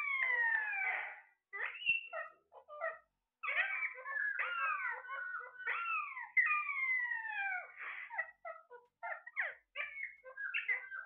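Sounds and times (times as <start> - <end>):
parakeets calling: 0.0 - 11.0.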